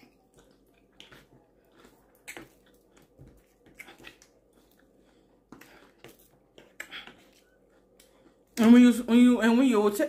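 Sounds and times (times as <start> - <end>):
faint chewing: 0.0 - 8.6.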